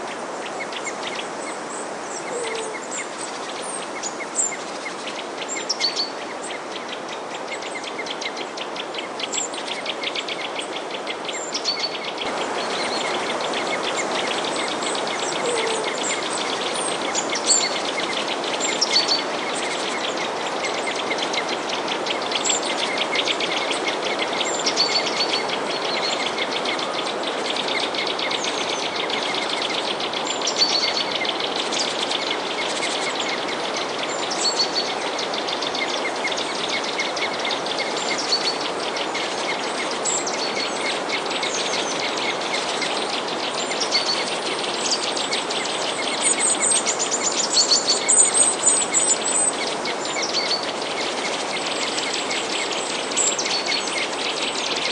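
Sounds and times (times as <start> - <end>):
small songbirds chirping: 0.0 - 54.9.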